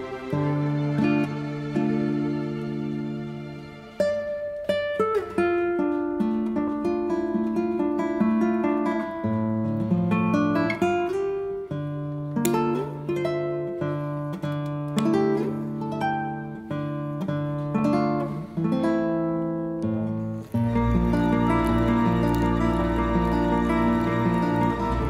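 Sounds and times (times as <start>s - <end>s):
acoustic guitar melody: 0.0s - 25.0s.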